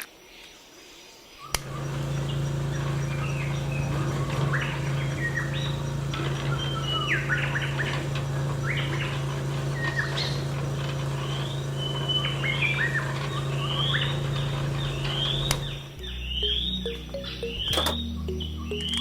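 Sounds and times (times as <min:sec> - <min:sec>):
birds chirping: 0:01.4 - 0:19.0.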